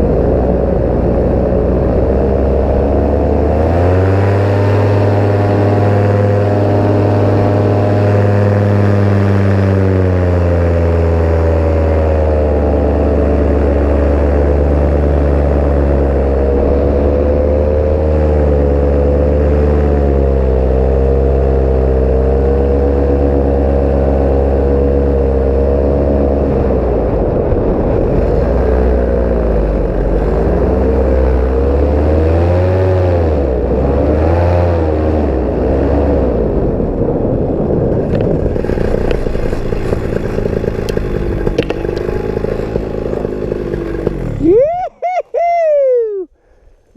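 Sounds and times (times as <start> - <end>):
paramotor engine and propeller: 0.0 - 46.9.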